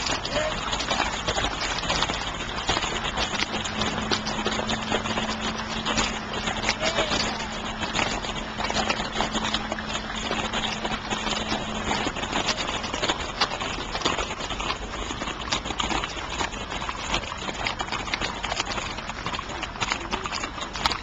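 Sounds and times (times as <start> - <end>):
horse hooves on pavement: 0.0 - 21.0
low hum: 0.0 - 21.0.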